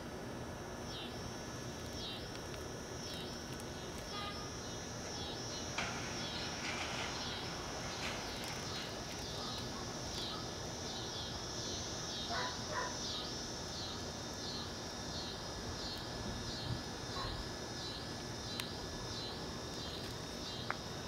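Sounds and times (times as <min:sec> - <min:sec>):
pulsing insect chorus: 0:00.0 - 0:21.0
low insect chirps: 0:00.6 - 0:21.0.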